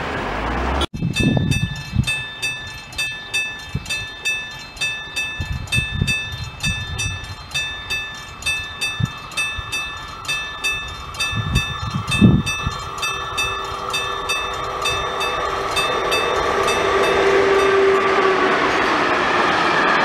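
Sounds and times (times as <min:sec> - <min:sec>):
low train rumbles: 0:00.0 - 0:20.0
level crossing bell ringing: 0:01.0 - 0:18.3.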